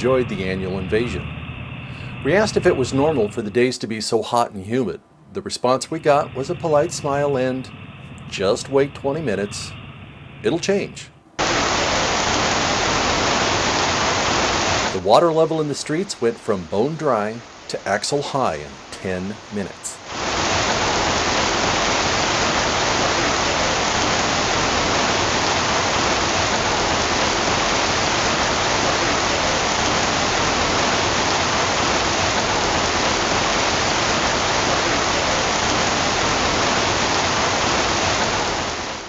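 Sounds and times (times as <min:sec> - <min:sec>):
heavy rain pouring: 0:00.0 - 0:01.3, 0:01.9 - 0:03.7, 0:05.6 - 0:09.7, 0:11.4 - 0:39.0.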